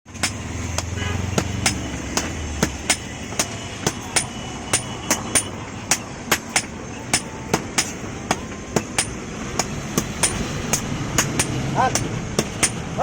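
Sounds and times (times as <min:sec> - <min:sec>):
hammer striking metal on anvil: 0:00.1 - 0:13.0.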